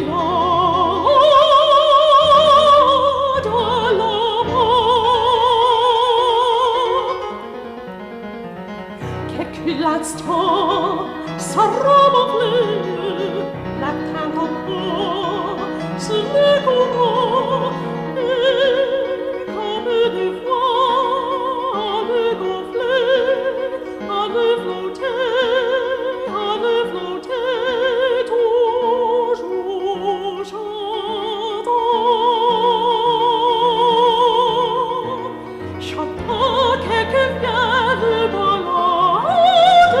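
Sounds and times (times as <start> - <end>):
operatic singing: 0.0 - 7.9, 9.0 - 40.0.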